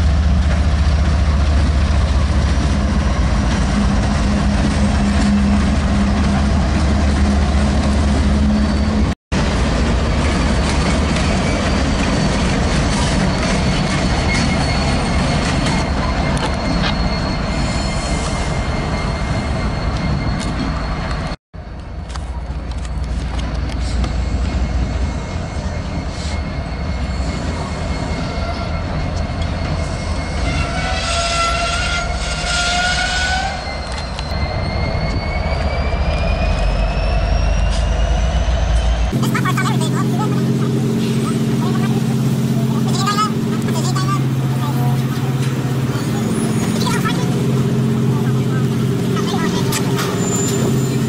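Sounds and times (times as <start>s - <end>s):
wheels squealing: 0.0s - 9.2s, 9.8s - 21.4s, 22.2s - 51.0s
diesel locomotive engine rumble: 0.0s - 51.0s.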